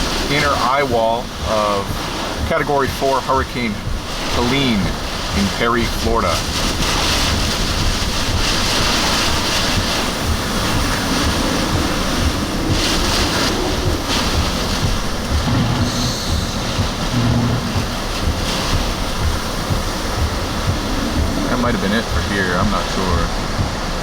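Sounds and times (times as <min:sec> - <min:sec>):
hurricane wind rushing: 0:00.0 - 0:24.0
wind gusts buffeting microphone: 0:00.0 - 0:24.0.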